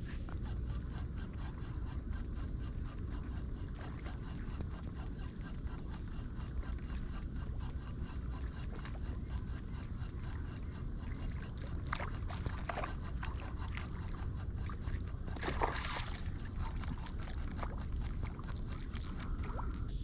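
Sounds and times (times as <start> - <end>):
steady low rumble: 0.0 - 20.0
water lapping against kayak hull: 2.6 - 19.9.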